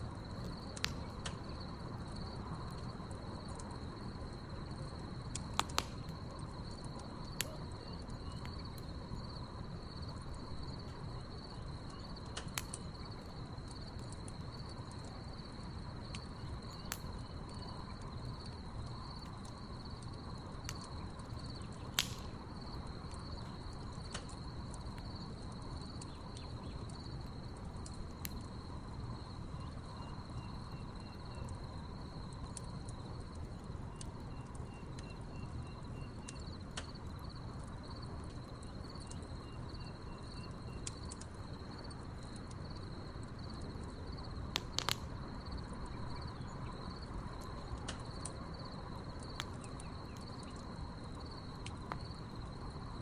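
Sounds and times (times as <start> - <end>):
crickets chirping: 0.0 - 53.0
wood fire crackling and popping: 0.0 - 53.0.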